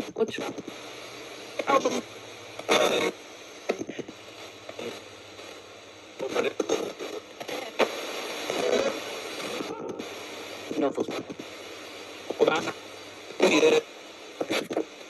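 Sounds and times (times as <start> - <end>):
choppy broadcast fragments: 0.0 - 15.0
radio static hiss: 0.0 - 15.0.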